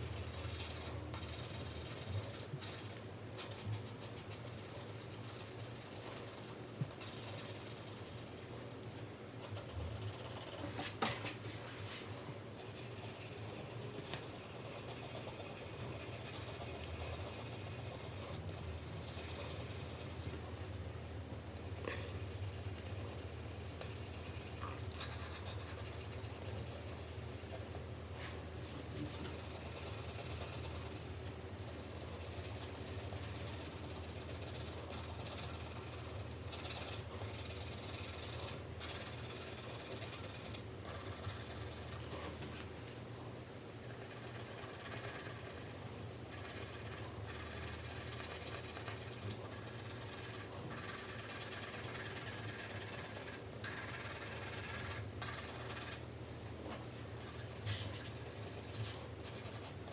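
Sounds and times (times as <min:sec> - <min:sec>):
pencil scratching on paper: 0:00.0 - 0:08.8, 0:09.4 - 0:10.8, 0:12.6 - 0:20.4, 0:21.4 - 0:27.8, 0:29.3 - 0:42.1, 0:43.7 - 0:56.6, 0:57.2 - 0:59.9
steady low hum: 0:00.0 - 0:59.9.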